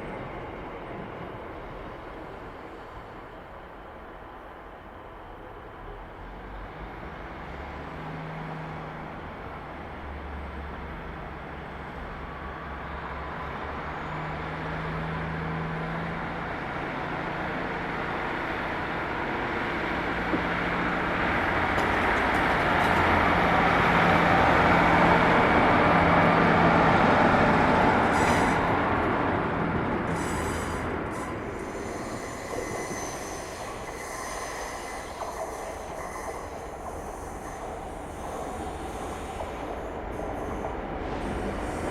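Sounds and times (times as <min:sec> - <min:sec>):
train wheels on rails: 0:06.4 - 0:41.9.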